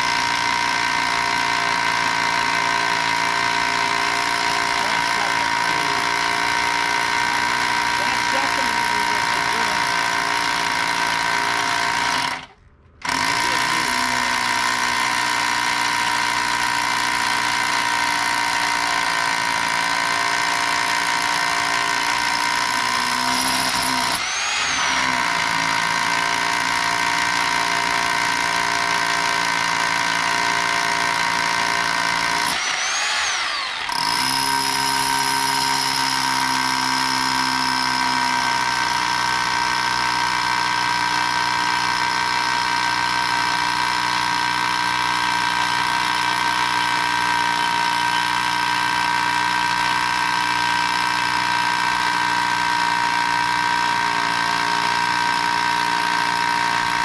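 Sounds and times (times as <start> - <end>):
rotohammer drilling into concrete: 0.0 - 57.0.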